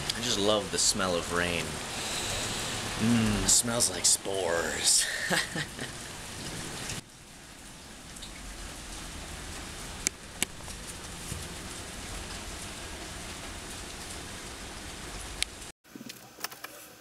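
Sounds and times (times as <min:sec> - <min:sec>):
steady rain falling: 0:00.0 - 0:15.7.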